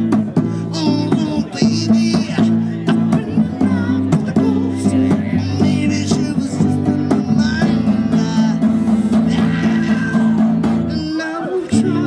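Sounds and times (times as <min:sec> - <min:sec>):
guitar strumming: 0:00.0 - 0:12.0.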